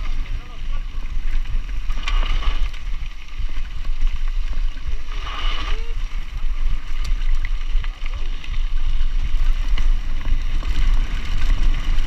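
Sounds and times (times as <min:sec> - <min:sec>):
bike tyres rolling on gravel: 0:00.0 - 0:12.0.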